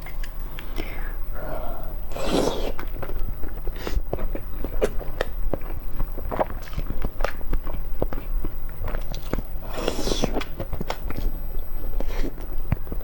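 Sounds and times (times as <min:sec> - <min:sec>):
biting and chewing crunches: 0:02.2 - 0:13.0.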